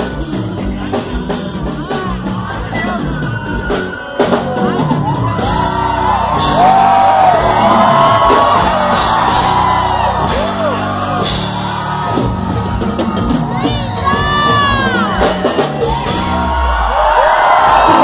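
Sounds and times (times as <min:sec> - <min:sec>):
crowd screaming and whooping: 0:00.0 - 0:18.0
live band music with singing: 0:00.0 - 0:18.0.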